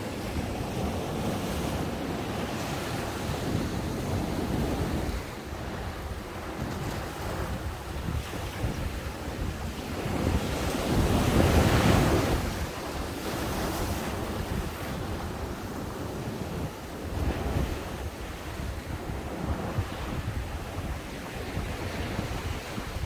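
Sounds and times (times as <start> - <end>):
ocean waves breaking on beach: 0.0 - 23.0
wind buffeting microphone: 0.0 - 23.0.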